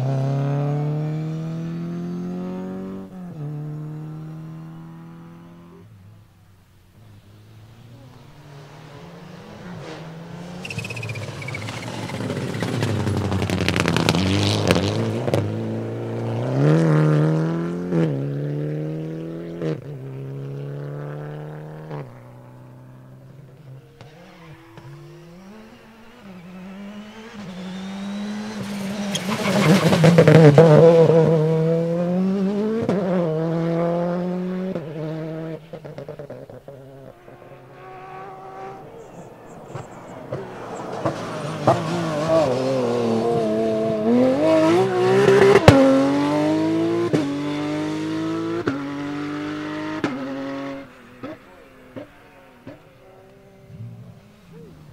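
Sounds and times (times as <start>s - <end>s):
rally cars accelerating past: 0.0s - 6.2s, 7.0s - 54.9s.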